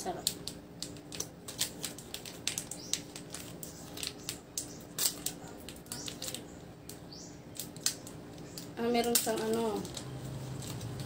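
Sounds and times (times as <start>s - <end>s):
packaging crackling and rustling: 0.0s - 11.0s.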